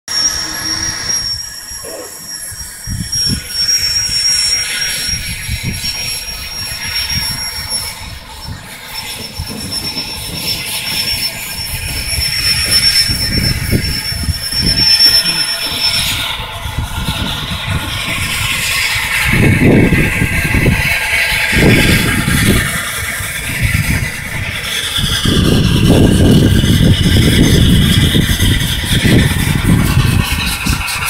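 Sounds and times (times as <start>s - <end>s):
high whine: 0.1s - 31.0s
locomotive low rumble: 0.1s - 31.0s
steam hissing: 0.1s - 31.0s.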